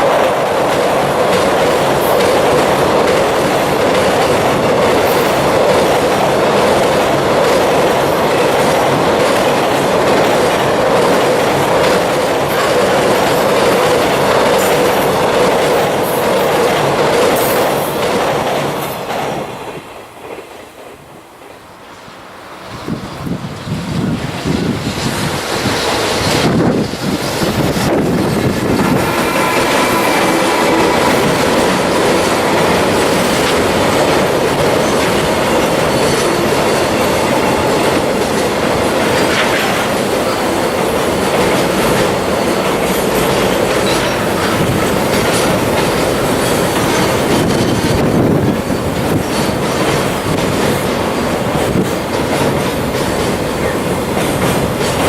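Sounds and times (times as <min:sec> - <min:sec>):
train wheel clatter: 0:00.0 - 0:55.0.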